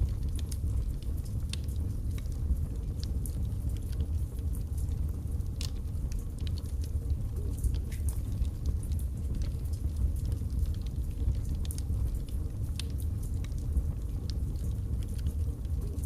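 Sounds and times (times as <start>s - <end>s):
fire crackling and popping: 0.0s - 16.0s
low rumble of flame: 0.0s - 16.0s.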